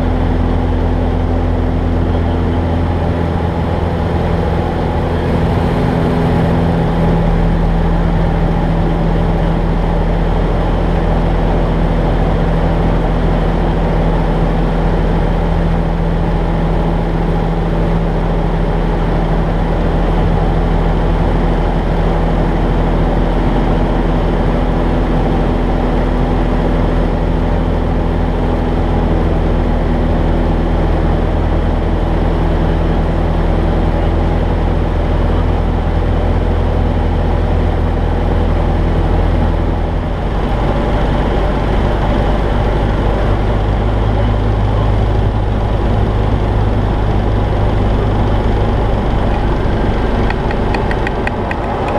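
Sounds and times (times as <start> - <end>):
light aircraft engine droning: 0.0 - 51.9.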